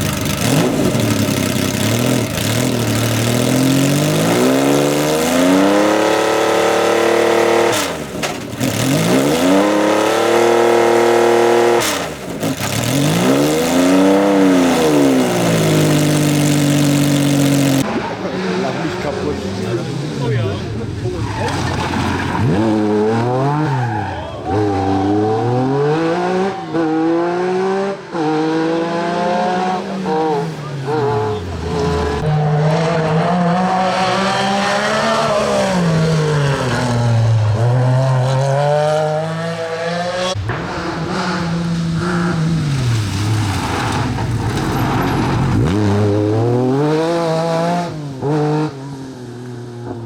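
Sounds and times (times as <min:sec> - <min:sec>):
racing car engine revving: 0:00.0 - 0:50.0.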